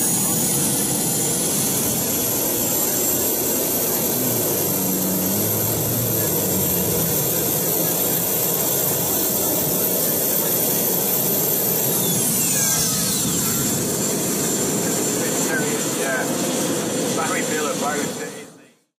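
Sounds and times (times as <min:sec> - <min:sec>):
turbine engine rushing whine: 0:00.0 - 0:18.6.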